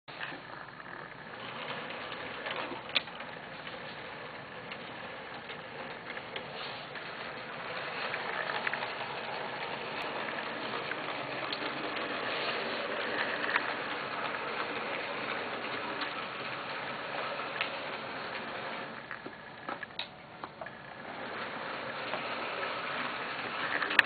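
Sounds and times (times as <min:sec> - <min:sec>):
model train running on track: 0:00.1 - 0:19.9, 0:20.6 - 0:24.0.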